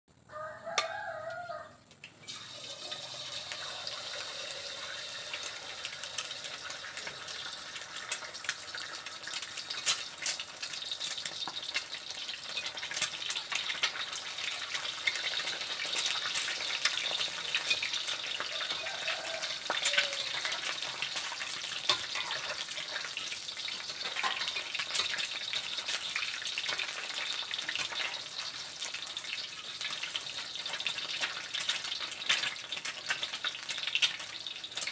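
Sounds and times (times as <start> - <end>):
egg sizzling in hot oil: 0.4 - 34.9.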